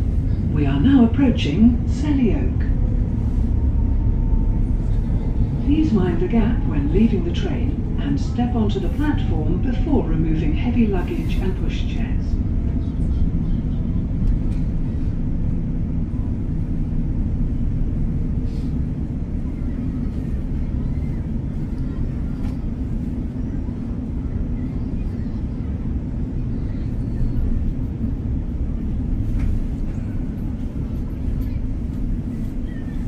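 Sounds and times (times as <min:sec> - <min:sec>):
train rumble from inside carriage: 0:00.0 - 0:33.0.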